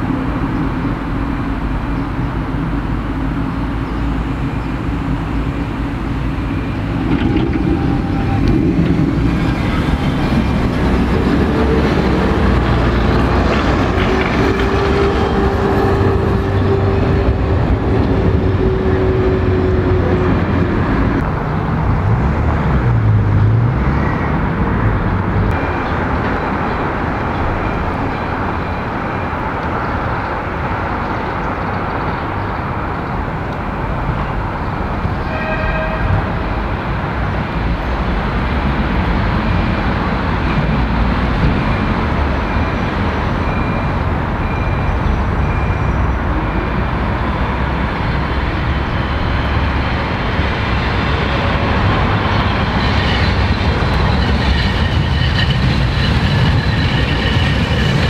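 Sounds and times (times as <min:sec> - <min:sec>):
high tram whine: 0:00.0 - 0:58.0
street traffic noise: 0:00.0 - 0:58.0
tram approaching: 0:00.0 - 0:58.0.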